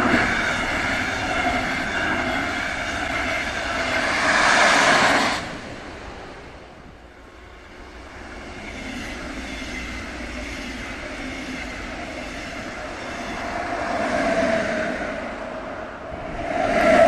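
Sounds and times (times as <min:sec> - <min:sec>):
locomotive whine: 0:00.0 - 0:17.0
passenger train rolling past: 0:00.0 - 0:17.0.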